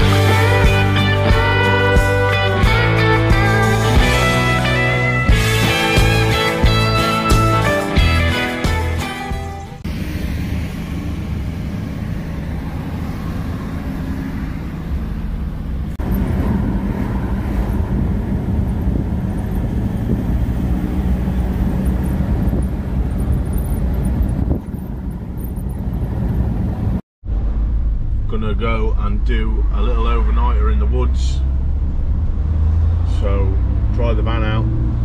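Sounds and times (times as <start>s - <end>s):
van engine and road noise: 0.0s - 35.0s.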